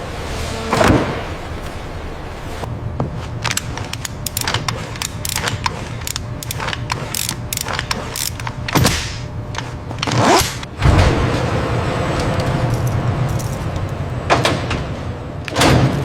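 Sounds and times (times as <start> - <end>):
factory machinery clacking: 0.0 - 16.0
steady low hum: 0.0 - 16.0.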